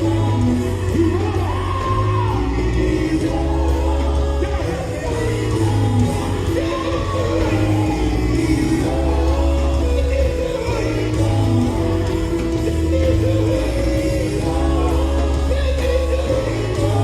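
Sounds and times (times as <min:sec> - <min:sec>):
band with heavy bass: 0:00.0 - 0:17.0
group singing gospel: 0:00.0 - 0:17.0.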